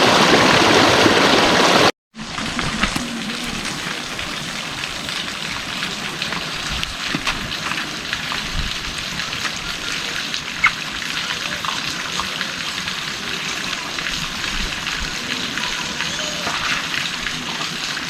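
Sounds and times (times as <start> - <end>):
heavy rain falling: 0.0 - 18.0
sharp raindrop taps: 2.2 - 18.0.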